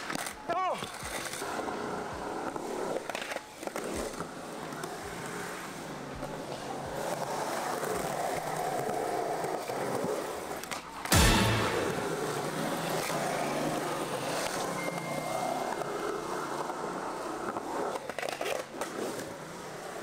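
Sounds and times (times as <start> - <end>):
skateboard rolling on concrete: 0.0 - 11.1, 12.1 - 20.0.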